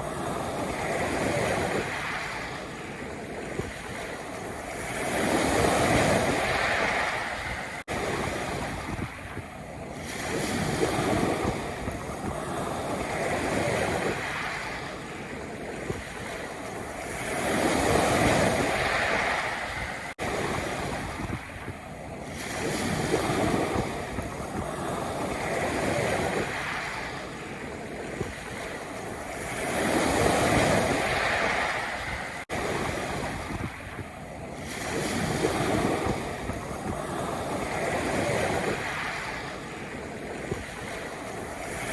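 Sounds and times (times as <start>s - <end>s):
waves breaking on pebble beach: 0.0s - 41.9s.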